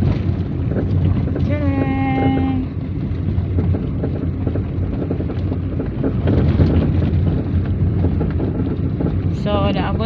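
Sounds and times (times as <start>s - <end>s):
road noise in moving car: 0.0s - 10.0s
wind on microphone: 0.0s - 10.0s.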